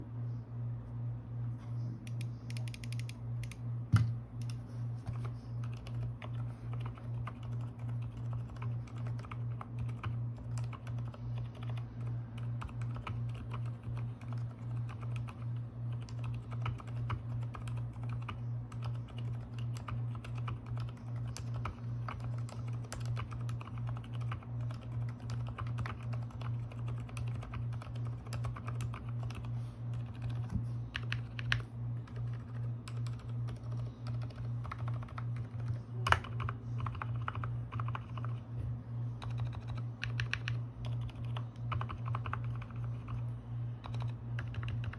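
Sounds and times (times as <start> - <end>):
low pulsing hum: 0.0 - 44.9
soft keyboard typing: 2.1 - 3.6, 4.4 - 38.5, 39.2 - 43.2, 43.8 - 44.9.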